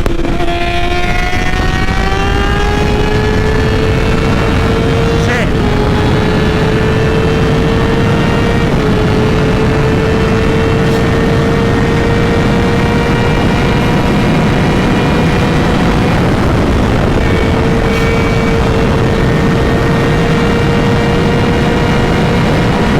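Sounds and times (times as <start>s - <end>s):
motorcycle engine at speed: 0.0s - 22.9s
wind rumble on microphone: 0.0s - 22.9s.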